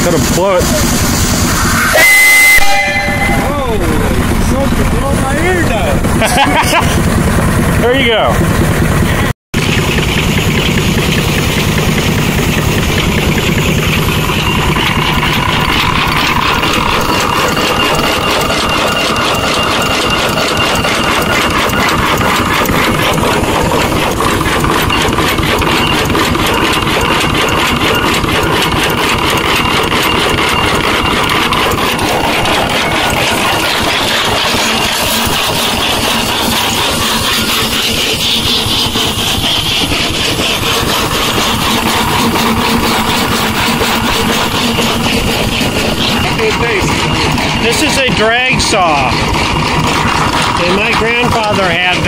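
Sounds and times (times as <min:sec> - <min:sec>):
stationary engine exhaust beats: 0:00.0 - 0:52.0
high steady tone: 0:00.2 - 0:06.1, 0:12.9 - 0:49.2.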